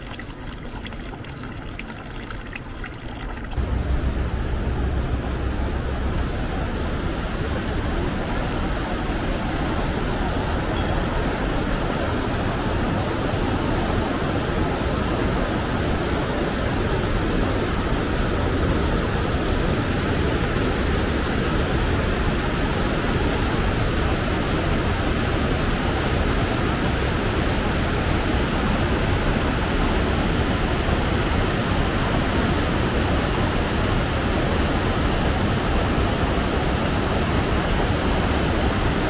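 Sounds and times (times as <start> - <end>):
rushing river and waterfall: 6.0 - 39.0.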